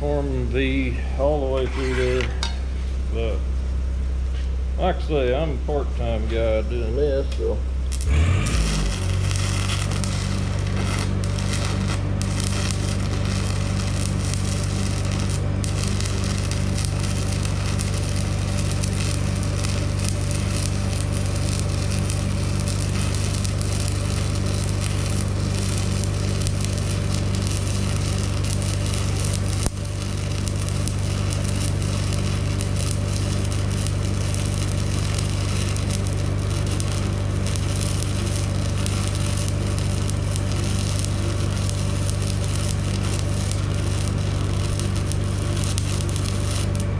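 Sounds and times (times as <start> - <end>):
low steady hum: 0.0 - 46.9
welding arc crackling: 7.3 - 46.9.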